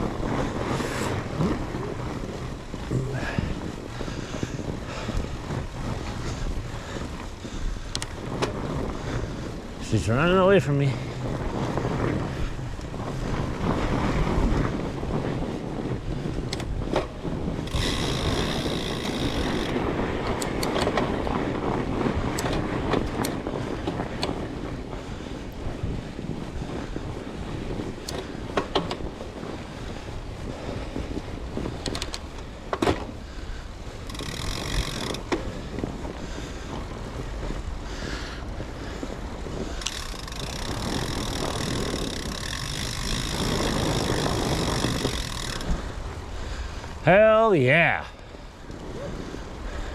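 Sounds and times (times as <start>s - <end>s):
bike clicks and rattles: 0.0s - 47.0s
bike tyre rumble on trail: 0.0s - 49.9s
wind over microphone: 0.0s - 49.9s.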